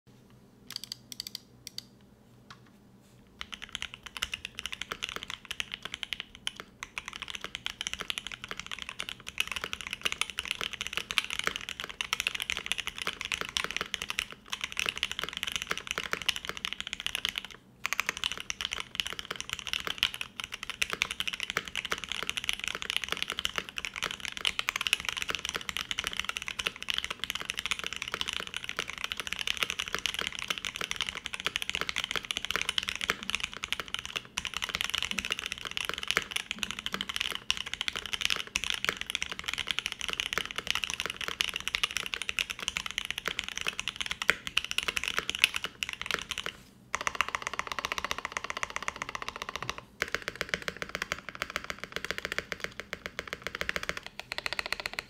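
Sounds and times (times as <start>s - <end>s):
typing on mechanical keyboard: 0.7s - 1.8s, 3.4s - 55.0s.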